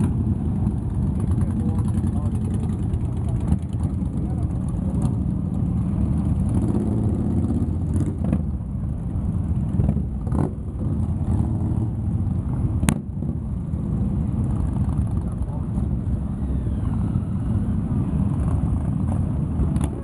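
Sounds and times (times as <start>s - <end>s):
motorcycles riding slowly past: 0.0s - 20.0s.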